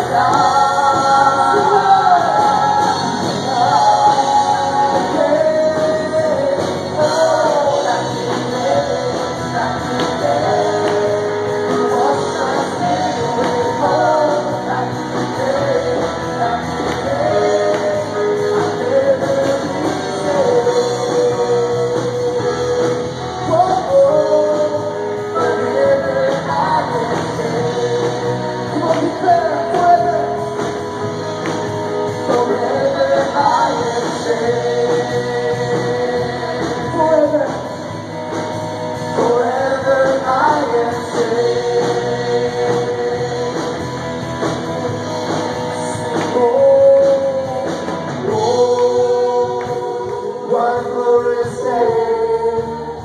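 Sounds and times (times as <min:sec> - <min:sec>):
acoustic and electric guitars: 0:00.0 - 0:53.0
lead singing: 0:00.0 - 0:53.0
worship band playing: 0:00.0 - 0:53.0.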